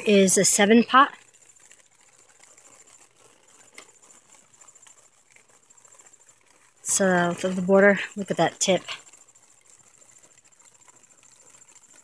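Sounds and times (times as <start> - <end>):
high pulsing insect trill: 0.0 - 12.0.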